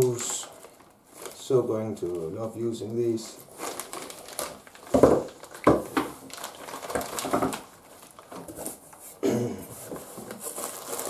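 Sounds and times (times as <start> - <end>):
plastic bags rustling: 0.0 - 11.0.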